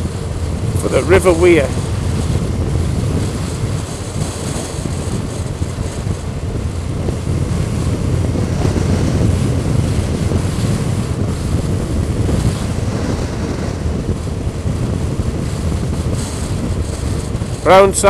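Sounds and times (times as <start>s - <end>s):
motorcycle engine cruising: 0.0s - 18.0s
road noise: 0.0s - 18.0s
wind rushing over microphone: 0.0s - 18.0s.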